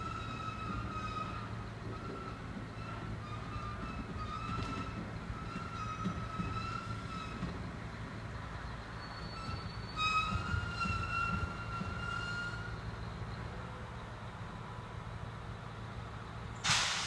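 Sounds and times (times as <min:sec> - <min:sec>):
train brakes squealing: 0:00.0 - 0:13.5, 0:16.6 - 0:17.0
low rumble of train: 0:00.0 - 0:17.0.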